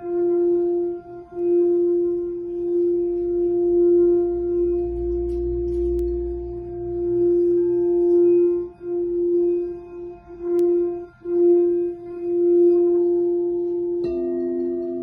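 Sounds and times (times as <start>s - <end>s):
singing bowl tone: 0.0s - 15.0s.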